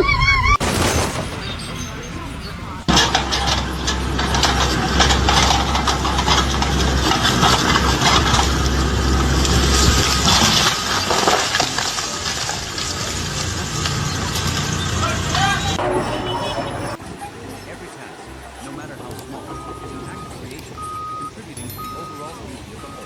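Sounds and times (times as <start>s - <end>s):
loud clattering and crunching: 0.1s - 23.0s
deep engine drone: 2.1s - 23.0s.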